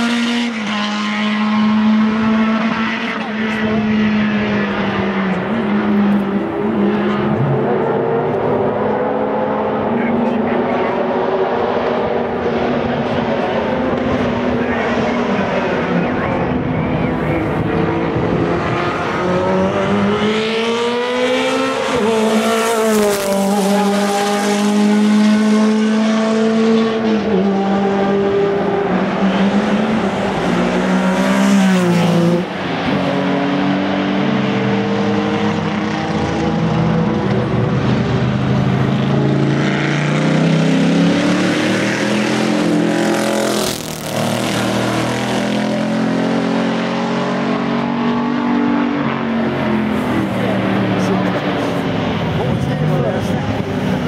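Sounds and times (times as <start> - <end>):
racing car engines passing: 0.0 - 54.0.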